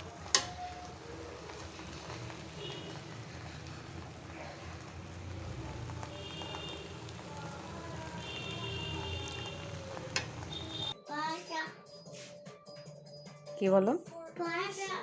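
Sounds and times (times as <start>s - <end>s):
rice and sugar sizzling: 0.0s - 12.3s.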